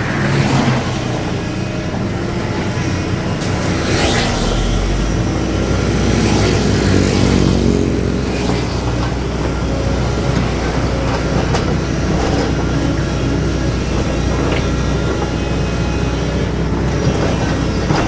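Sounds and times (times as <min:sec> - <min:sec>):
excavator diesel engine working: 0:00.0 - 0:18.0.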